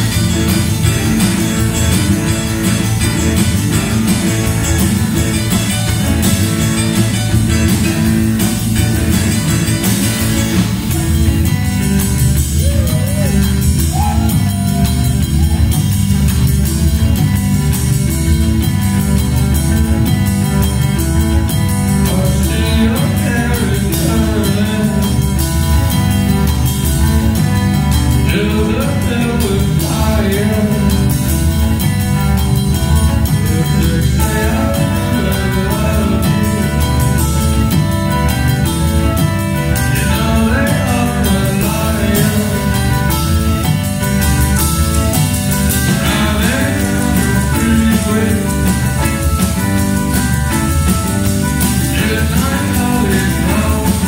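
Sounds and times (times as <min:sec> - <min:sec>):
bass and drums: 0:00.0 - 0:54.0
electric guitar: 0:00.0 - 0:54.0.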